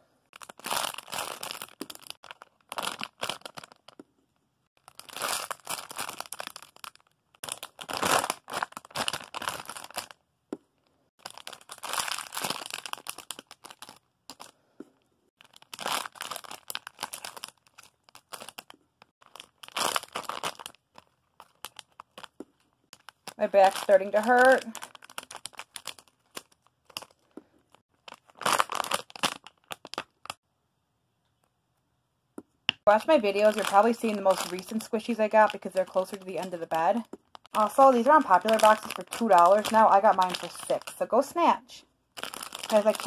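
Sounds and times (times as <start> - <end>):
plastic packaging crinkling: 0.3 - 4.0, 4.8 - 10.2, 11.2 - 14.5, 15.4 - 30.4, 32.8 - 41.3, 42.2 - 43.0.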